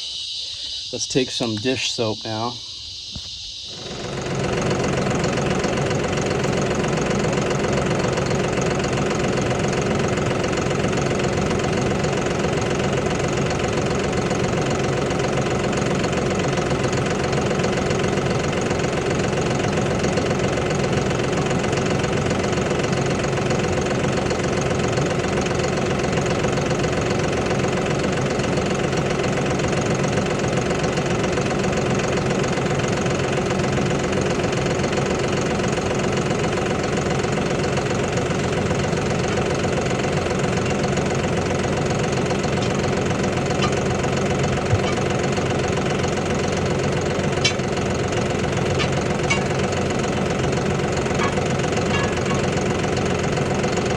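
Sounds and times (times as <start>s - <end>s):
motor machine humming: 0.0s - 53.9s.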